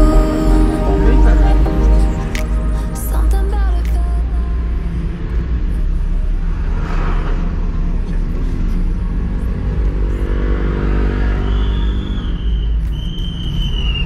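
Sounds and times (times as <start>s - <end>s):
car engine hum and road rumble: 0.0s - 13.4s.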